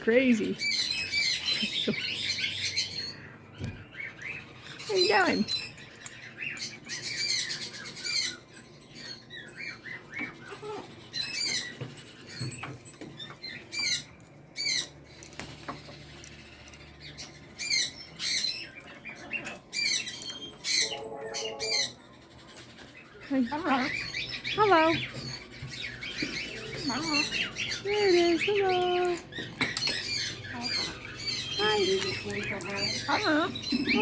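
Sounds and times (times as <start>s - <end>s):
parrots chirping and squawking: 0.0s - 34.0s.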